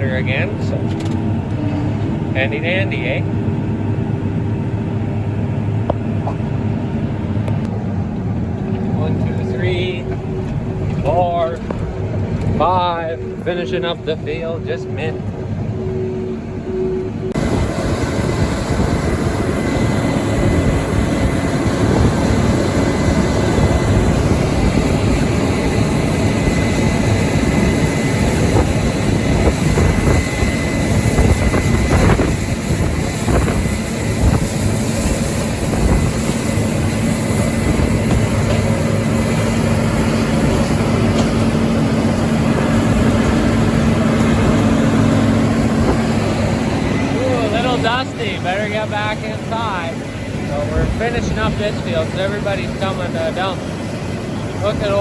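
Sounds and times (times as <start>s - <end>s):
harvester engine drone: 0.0s - 55.0s
low steady hum: 0.0s - 55.0s
thin high whine: 7.2s - 55.0s.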